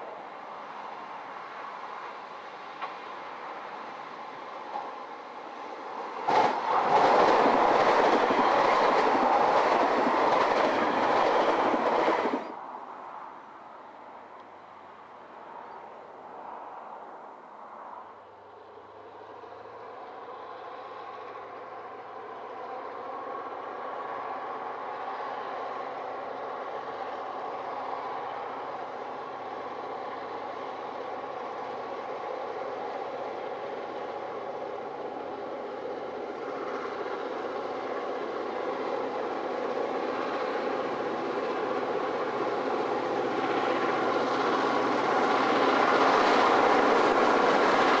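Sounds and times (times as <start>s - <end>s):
train running: 0.0s - 12.6s, 18.5s - 48.0s.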